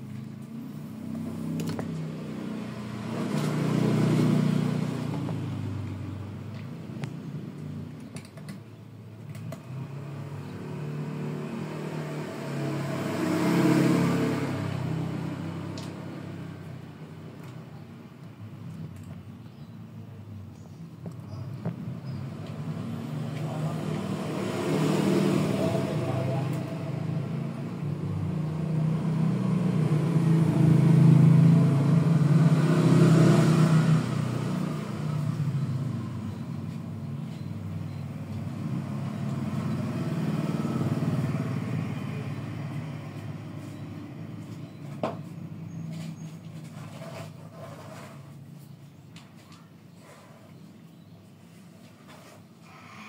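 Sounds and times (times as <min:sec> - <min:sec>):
vehicle engine passing: 0:00.0 - 0:07.9, 0:09.3 - 0:17.5, 0:21.4 - 0:48.3.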